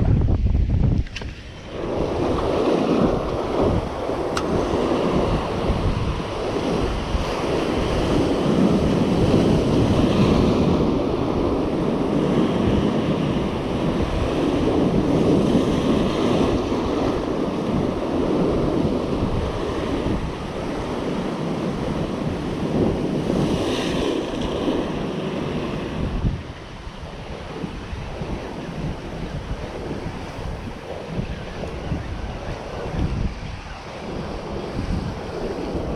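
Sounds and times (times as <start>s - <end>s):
wind buffeting microphone: 0.0s - 35.9s
ocean waves breaking on rocks: 1.1s - 35.9s.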